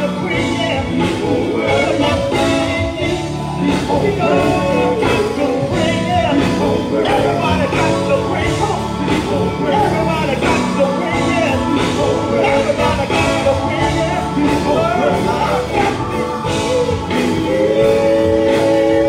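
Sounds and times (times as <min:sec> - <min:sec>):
group singing gospel: 0:00.0 - 0:19.0
instrumental backing: 0:00.0 - 0:19.0.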